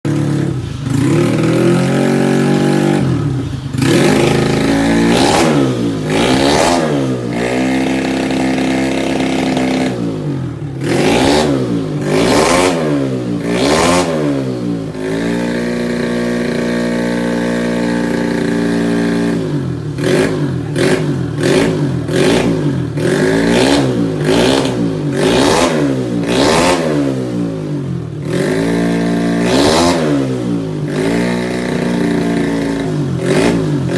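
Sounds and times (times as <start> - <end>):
scooter engine revving: 0.0 - 33.9.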